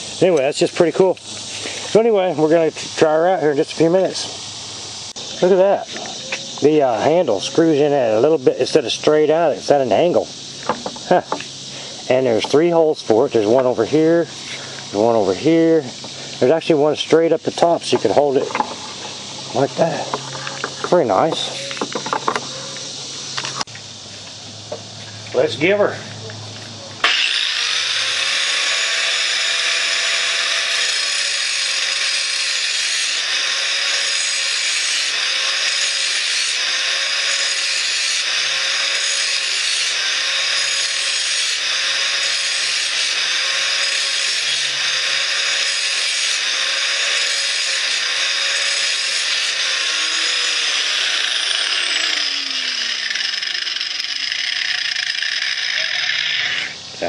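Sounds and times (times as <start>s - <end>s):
angle grinder whining: 5.1s - 23.8s, 25.0s - 56.9s.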